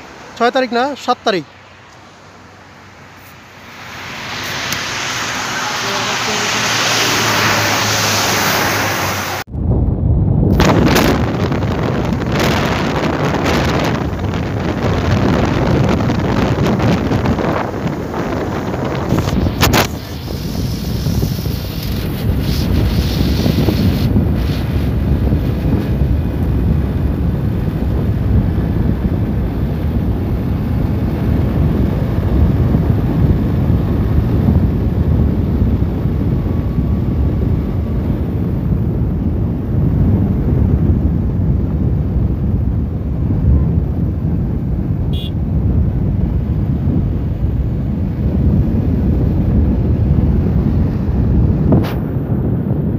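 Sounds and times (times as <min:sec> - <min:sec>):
road noise rumble: 0:00.0 - 0:52.9
wind buffeting microphone: 0:00.0 - 0:52.9.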